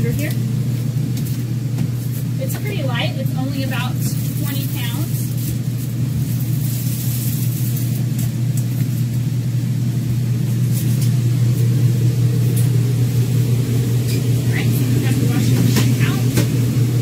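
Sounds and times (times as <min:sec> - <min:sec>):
low machine drone: 0:00.0 - 0:17.0.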